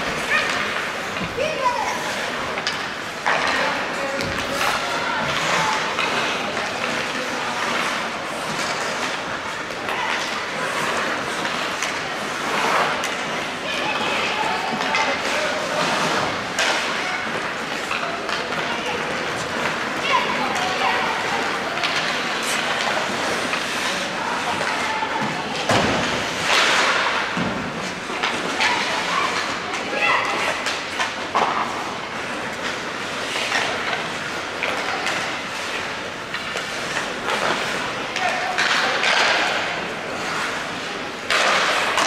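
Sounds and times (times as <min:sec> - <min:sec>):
skate blades scraping ice: 0:00.0 - 0:42.0.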